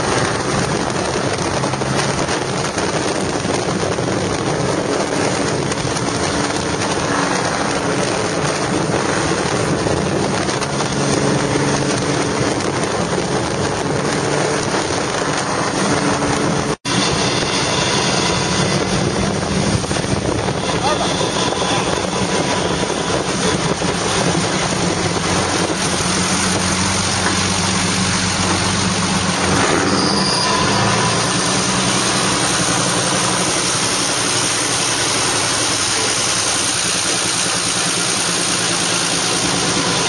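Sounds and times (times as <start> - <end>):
car engine drone: 0.0 - 40.0
loud rushing noise: 0.0 - 40.0.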